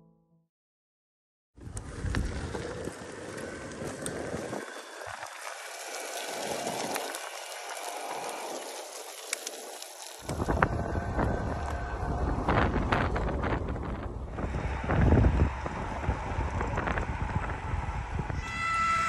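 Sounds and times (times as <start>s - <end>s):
wind buffeting microphone: 1.6s - 9.4s, 10.0s - 19.0s
steady rushing noise: 1.9s - 18.4s.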